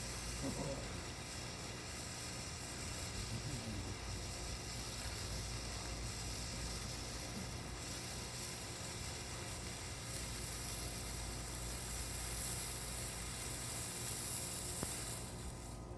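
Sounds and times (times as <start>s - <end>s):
sparkler fizzing hiss: 0.0s - 15.9s.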